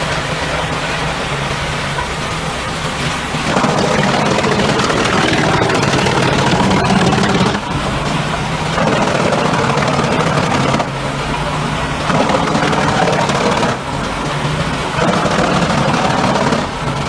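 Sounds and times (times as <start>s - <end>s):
wood chipper engine running: 2.3s - 17.0s.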